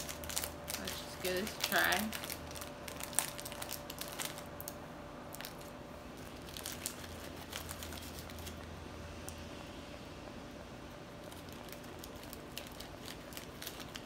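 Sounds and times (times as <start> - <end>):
plastic snack bag crinkling: 0.0 - 8.8, 11.1 - 14.0.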